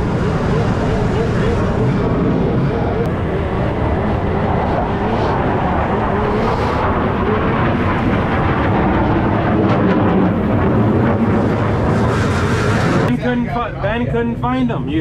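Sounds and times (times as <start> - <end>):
snowmobile engines running hard: 0.0 - 15.0.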